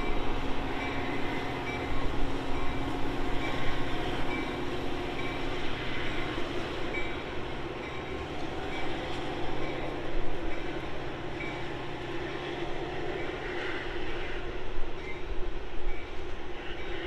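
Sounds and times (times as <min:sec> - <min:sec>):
commuter train rolling on rails: 0:00.0 - 0:17.0.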